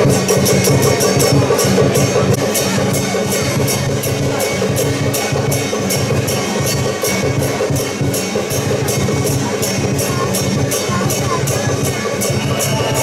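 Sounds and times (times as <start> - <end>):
metallic percussion beat: 0.0 - 13.0.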